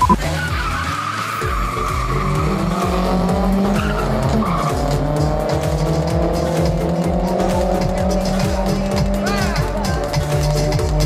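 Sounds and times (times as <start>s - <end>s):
background music: 0.0s - 11.0s
car engines accelerating hard: 0.0s - 11.0s.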